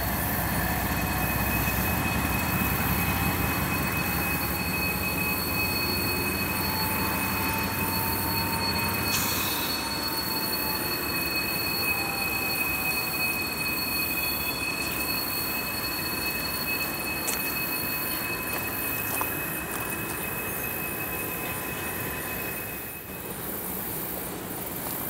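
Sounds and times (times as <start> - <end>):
freight train rumbling past: 0.0 - 25.0
high-pitched wheel squeal: 0.2 - 23.3.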